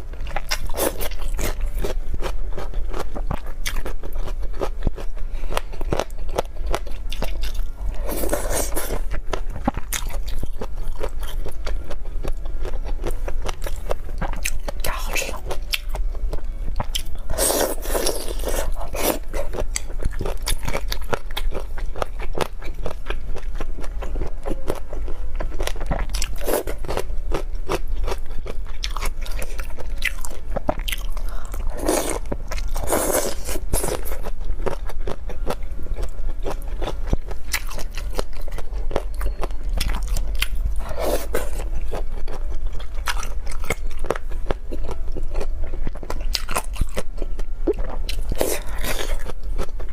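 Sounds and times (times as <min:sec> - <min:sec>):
low steady hum: 0:00.0 - 0:49.9
chewing and crunching: 0:00.1 - 0:49.9.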